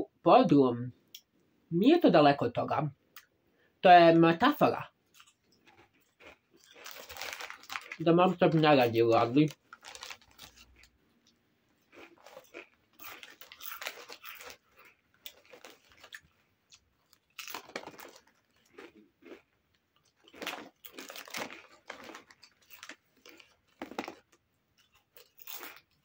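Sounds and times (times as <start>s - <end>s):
chips crunching while chewed: 5.1s - 26.0s.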